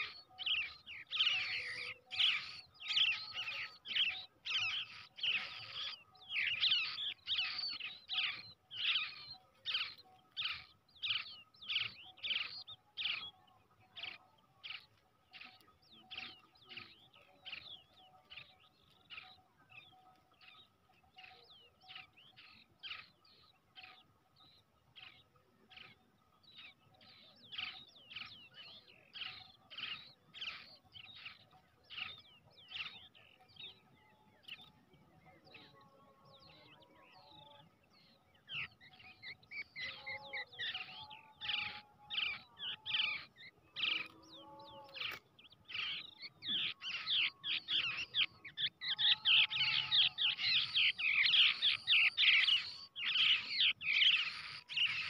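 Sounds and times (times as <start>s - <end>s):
bird chicks chirping: 0.0s - 55.0s.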